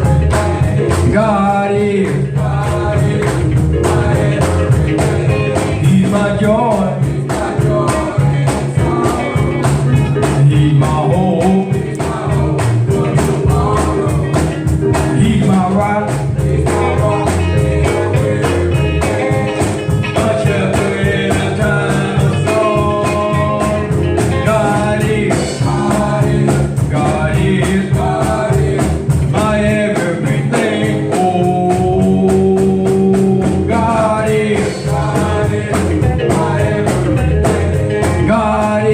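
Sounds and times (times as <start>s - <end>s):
bass line: 0.0s - 38.9s
drums beating steadily: 0.0s - 38.9s
gospel band playing: 0.0s - 38.9s
person singing: 0.0s - 38.9s.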